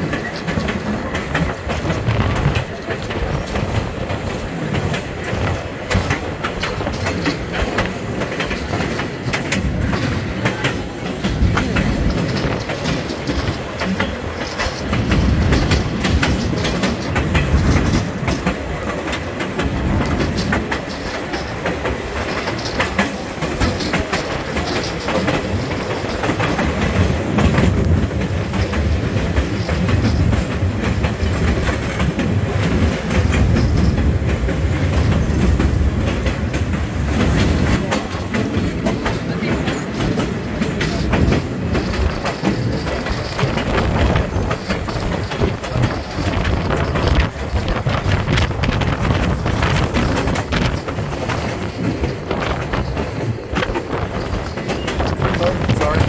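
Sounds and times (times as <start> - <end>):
train cars rumbling: 0.0 - 56.0
wheels clicking over rail joints: 0.0 - 56.0.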